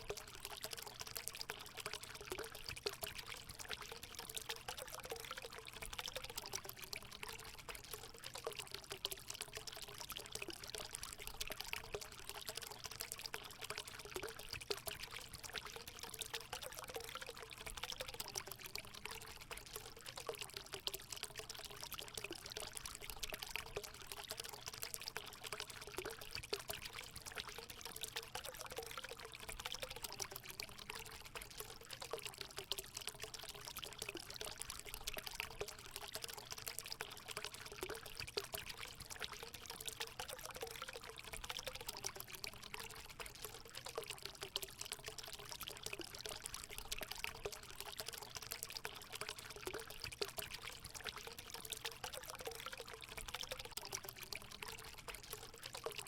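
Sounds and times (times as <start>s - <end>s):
spring water pouring into pool: 0.0s - 56.0s.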